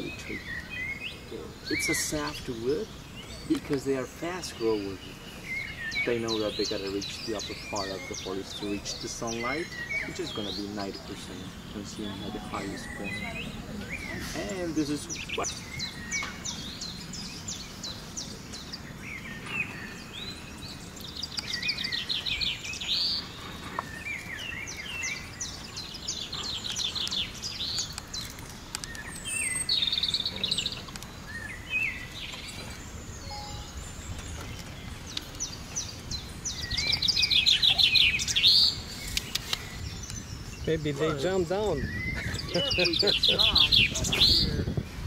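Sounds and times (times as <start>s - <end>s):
forest birds calling and singing: 0.0s - 45.0s
steady background hiss: 0.0s - 45.0s.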